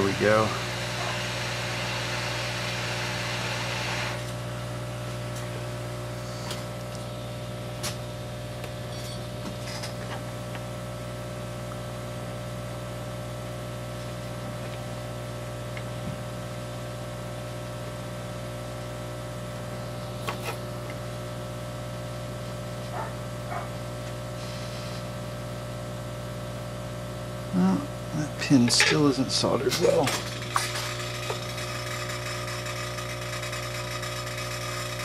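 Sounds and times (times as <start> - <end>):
electrical hum and hiss: 0.0 - 35.0.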